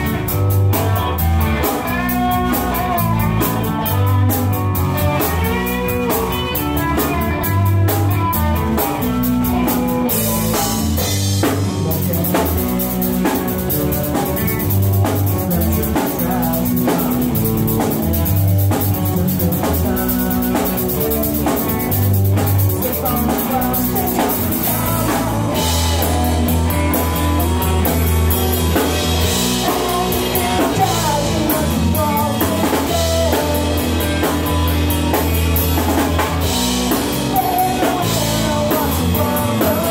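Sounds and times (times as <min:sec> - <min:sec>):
bass guitar held notes: 0:00.0 - 0:39.9
rock band playing live: 0:00.0 - 0:39.9.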